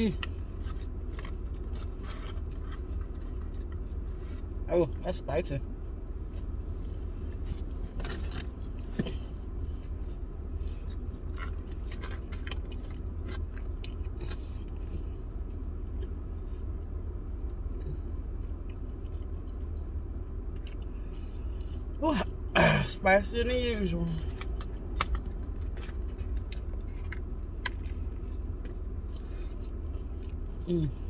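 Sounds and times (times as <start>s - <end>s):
low hum: 0.0s - 31.0s
person chewing: 0.1s - 4.6s, 6.3s - 16.7s, 17.7s - 22.0s, 24.3s - 31.0s.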